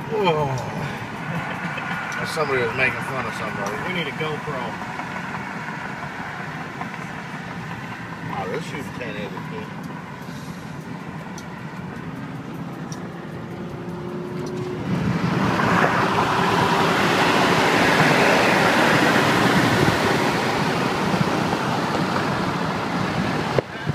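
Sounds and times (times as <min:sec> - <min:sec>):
car road and wind noise: 0:00.0 - 0:23.9.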